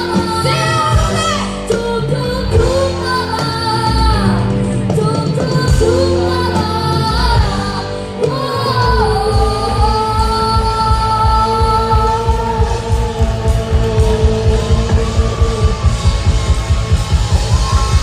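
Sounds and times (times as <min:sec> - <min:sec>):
person singing: 0:00.0 - 0:18.0
rock band playing: 0:00.0 - 0:18.0.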